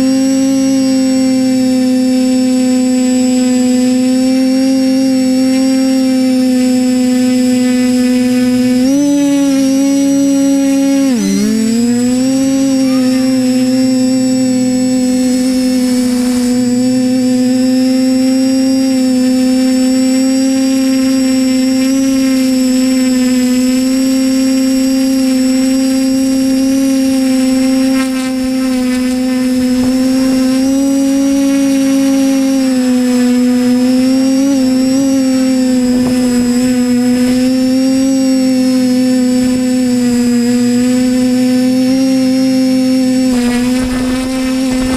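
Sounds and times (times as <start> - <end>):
drone propellers whining: 0.0 - 44.9.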